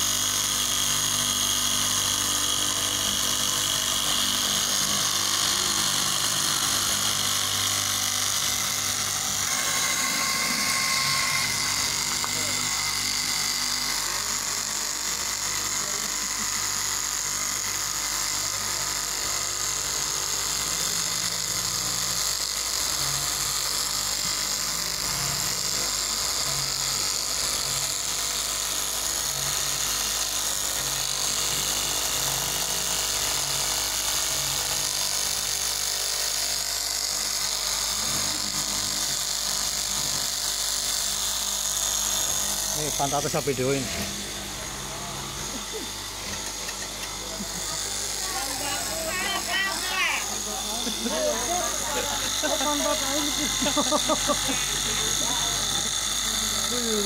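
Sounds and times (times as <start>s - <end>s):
cloth cutting machine whine: 0.0s - 57.0s.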